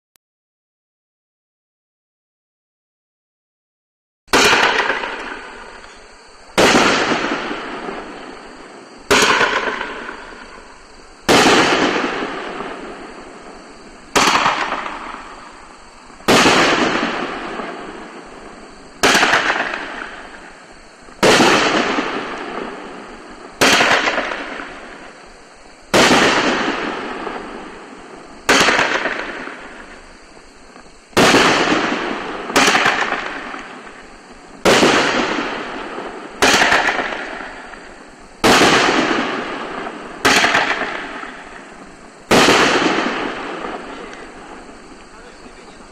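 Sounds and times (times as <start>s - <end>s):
fireworks bangs: 4.3s - 45.9s.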